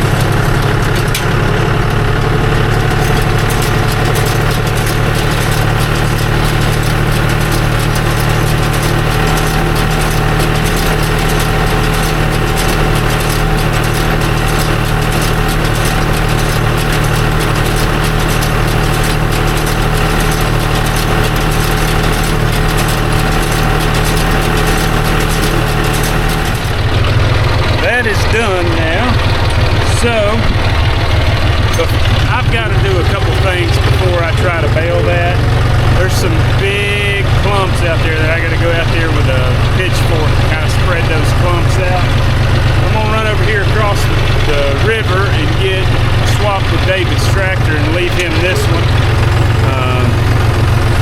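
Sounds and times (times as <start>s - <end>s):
tractor engine running: 0.0s - 51.0s.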